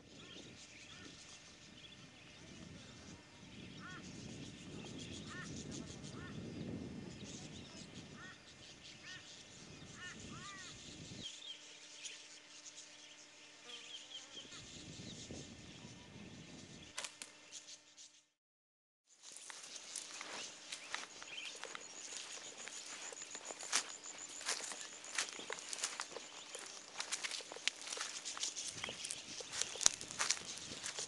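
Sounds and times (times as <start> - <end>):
faint steady hum: 0.0 - 18.0, 19.1 - 31.0
birds chirping: 0.0 - 18.3, 19.2 - 31.0.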